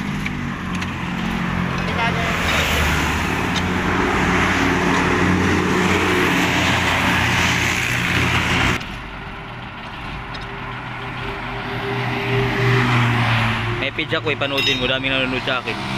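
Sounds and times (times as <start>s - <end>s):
road noise: 0.0s - 15.9s
vehicle engine: 0.0s - 15.9s.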